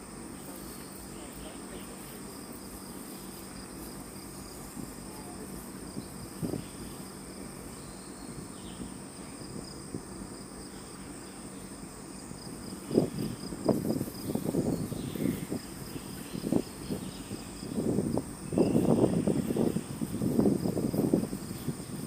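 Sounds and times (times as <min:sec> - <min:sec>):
forest insects chorus: 0:00.0 - 0:22.0.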